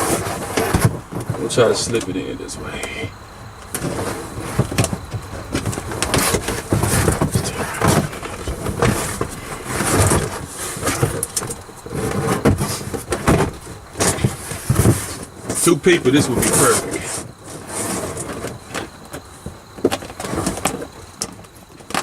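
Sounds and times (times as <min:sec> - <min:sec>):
sheet rustling and crinkling: 0:00.0 - 0:22.0.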